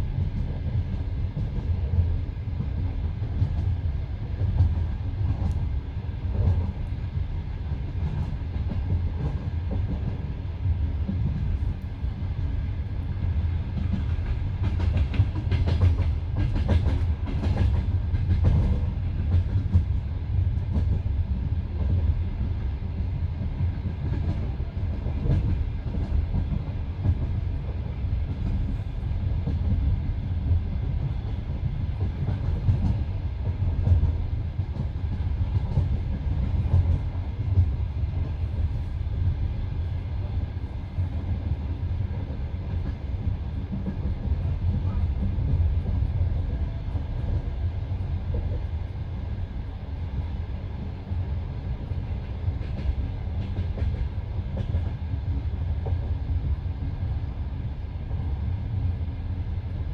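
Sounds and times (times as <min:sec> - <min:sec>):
train carriage rumble: 0:00.0 - 0:59.9.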